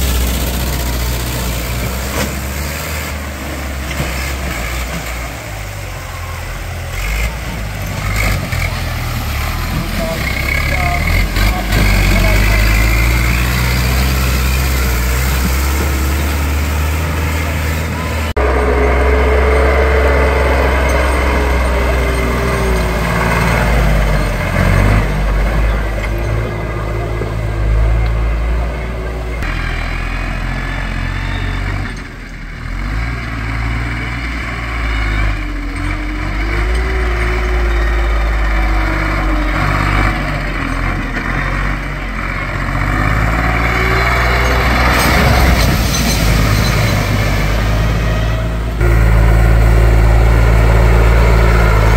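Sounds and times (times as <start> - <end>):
crowd voices: 0.0 - 32.5, 34.2 - 51.9
tractor diesel engines revving: 0.0 - 51.9.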